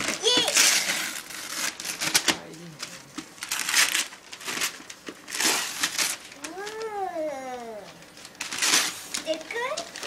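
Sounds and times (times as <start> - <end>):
wrapping paper tearing and rustling: 0.0 - 10.0.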